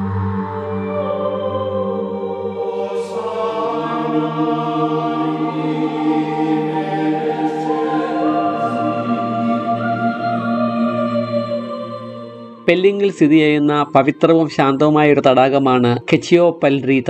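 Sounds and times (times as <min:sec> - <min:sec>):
steady drone: 0:00.0 - 0:16.1
chant-like voices: 0:00.6 - 0:16.4.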